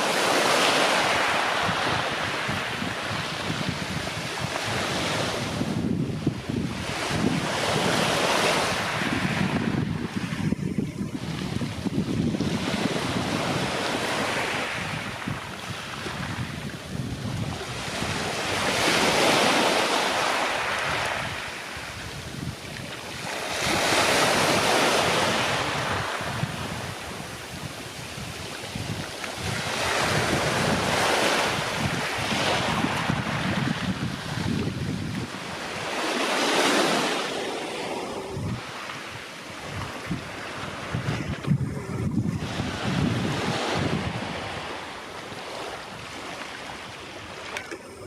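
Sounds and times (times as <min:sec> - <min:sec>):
sea waves breaking on shore: 0:00.0 - 0:48.0
wind rumbling on microphone: 0:00.0 - 0:48.0.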